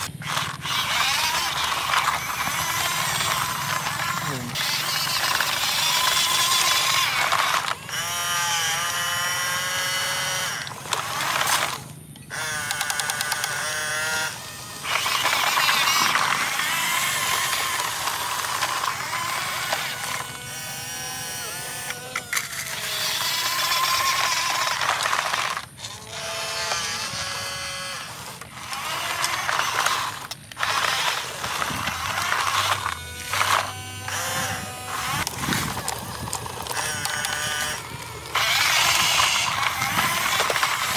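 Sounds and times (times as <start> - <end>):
electric motors whining and buzzing: 0.0 - 40.9.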